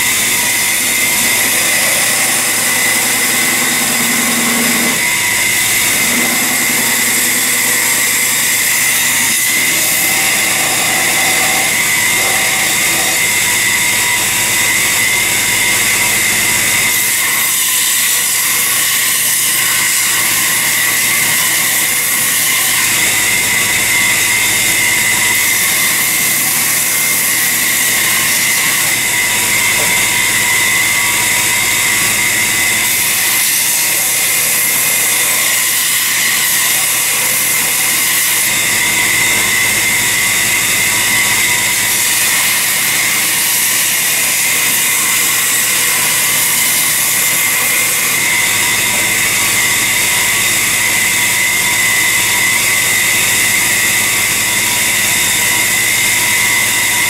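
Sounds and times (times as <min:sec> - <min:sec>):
electric grinder whining: 0:00.0 - 0:57.0.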